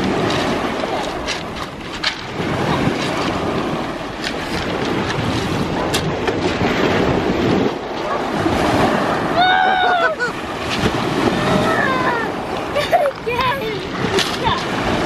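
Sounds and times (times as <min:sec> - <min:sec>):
waves breaking over shingle: 0:00.0 - 0:15.0
wind buffeting microphone: 0:00.0 - 0:15.0.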